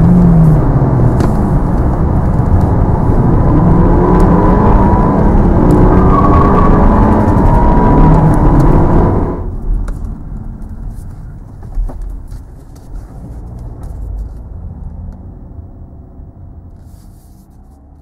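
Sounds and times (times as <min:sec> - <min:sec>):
diesel car engine: 0:00.0 - 0:18.0
road noise: 0:00.0 - 0:18.0.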